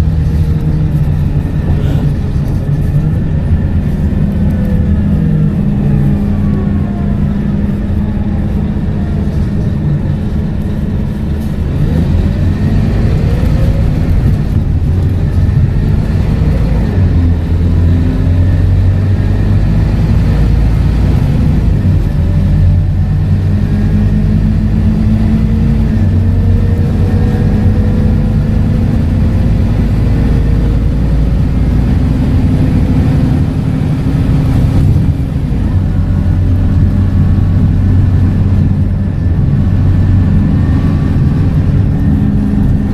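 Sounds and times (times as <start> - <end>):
bus diesel engine running: 0.0 - 42.9
rising whine: 0.0 - 42.9.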